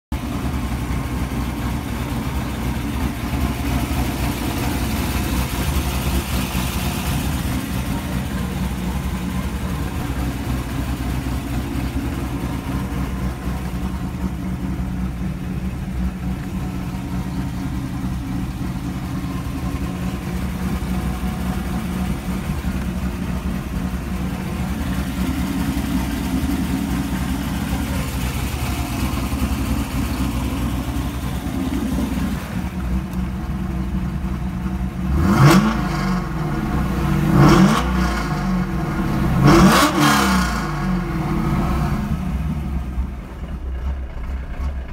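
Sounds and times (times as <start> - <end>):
car engine idling: 0.1 - 44.9.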